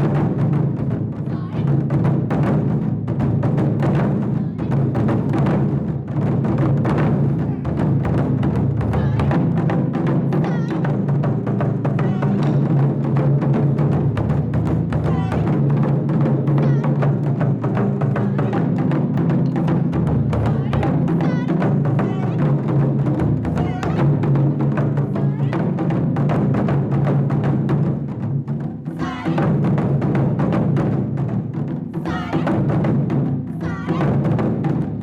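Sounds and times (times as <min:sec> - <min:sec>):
taiko drum ensemble playing: 0:00.0 - 0:35.0.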